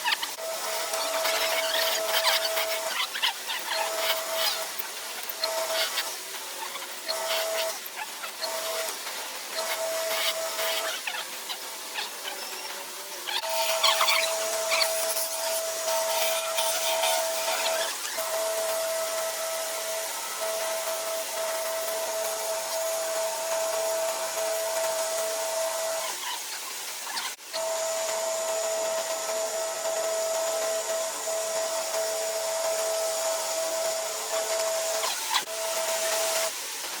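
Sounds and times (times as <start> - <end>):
lathe whining over a hiss: 0.0 - 37.0.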